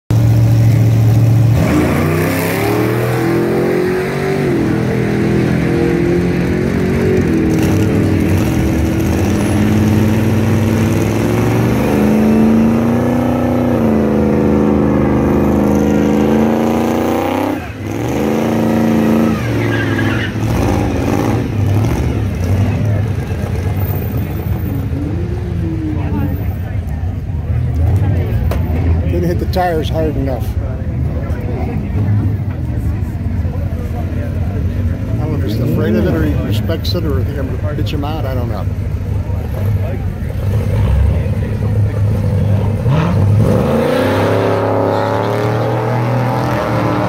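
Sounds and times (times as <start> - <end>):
racing car engines rumbling: 0.1 - 47.0.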